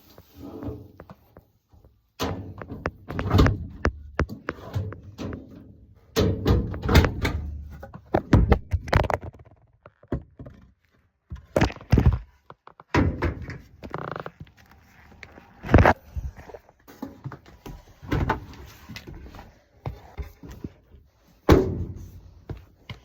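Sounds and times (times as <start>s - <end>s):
objects knocking and thudding: 0.1s - 14.6s, 15.6s - 23.0s.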